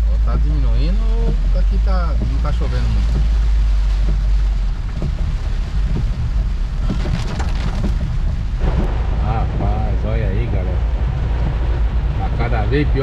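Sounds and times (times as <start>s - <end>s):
deep rumble: 0.0s - 13.0s
heavy rain on a car: 0.0s - 13.0s.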